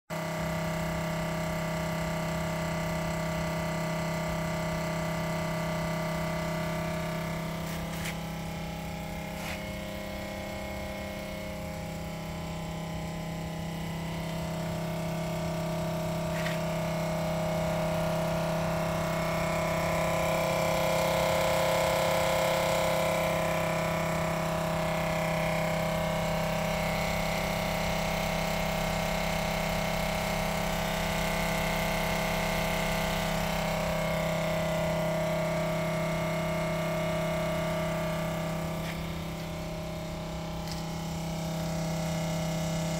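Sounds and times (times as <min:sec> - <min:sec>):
electric pump humming: 0:00.2 - 0:42.9.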